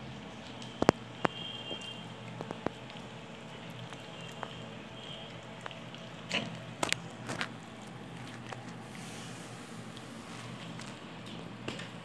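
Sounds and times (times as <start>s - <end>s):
puppies clicking and tapping in crate: 0.4s - 8.8s, 10.6s - 12.0s.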